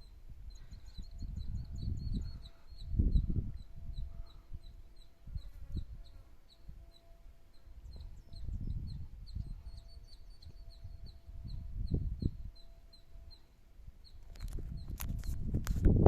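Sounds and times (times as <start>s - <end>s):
wind buffeting microphone: 0.0s - 6.9s, 7.8s - 12.6s, 13.2s - 16.0s
bird chirping: 0.0s - 15.4s.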